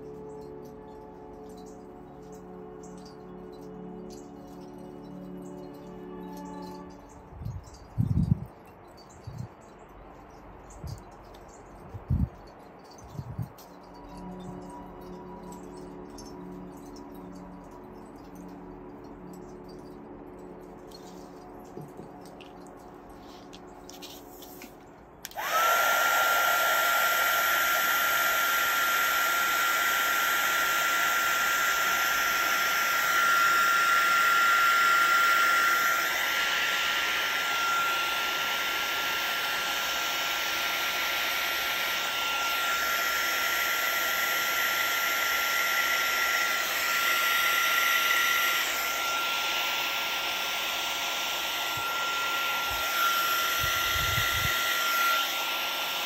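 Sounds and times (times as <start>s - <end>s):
heat gun fan rush with whine: 10.7s - 56.0s.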